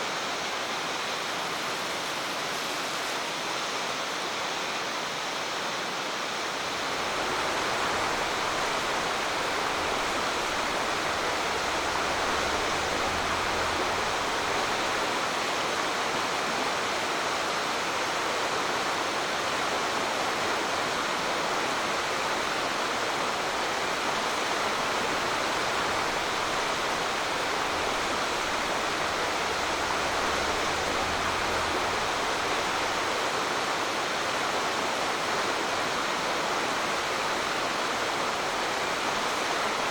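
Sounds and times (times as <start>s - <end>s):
stream rushing over rapids: 0.0s - 39.9s.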